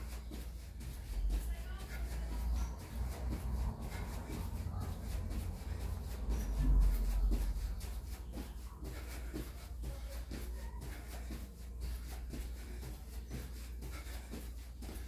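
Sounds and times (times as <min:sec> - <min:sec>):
feet thumping on tiled floor: 0:00.0 - 0:15.0.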